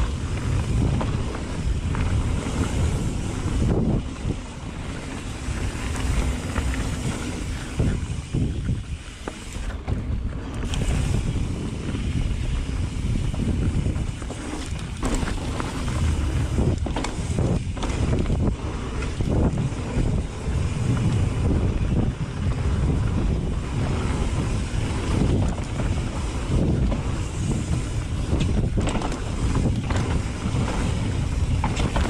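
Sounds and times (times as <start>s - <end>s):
bike knocks and rattles: 0.0s - 32.0s
tyres rolling on dirt: 0.0s - 32.0s
wind rushing over microphone: 0.0s - 32.0s.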